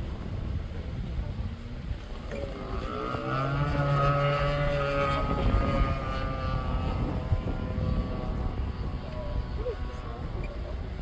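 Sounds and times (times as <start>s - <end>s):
model plane propeller drone: 0.0s - 11.0s
wind rumble on microphone: 0.0s - 11.0s.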